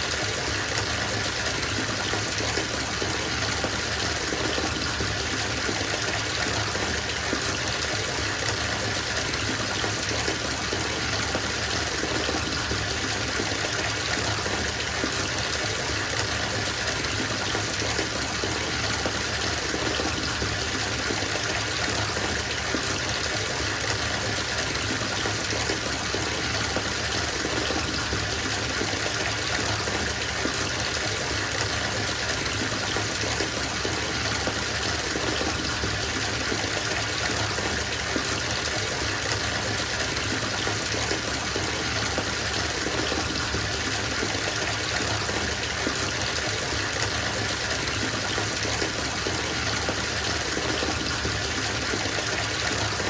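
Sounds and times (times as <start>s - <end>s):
water gushing into bathtub: 0.0s - 53.0s.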